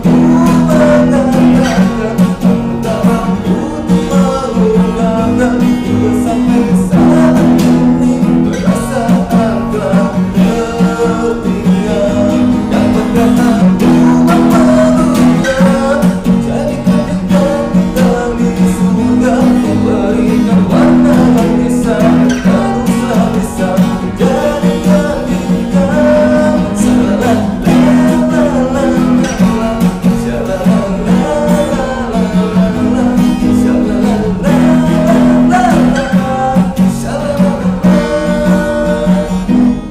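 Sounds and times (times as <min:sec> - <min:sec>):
man singing: 0:00.0 - 0:39.9
strummed acoustic guitar: 0:00.0 - 0:39.9.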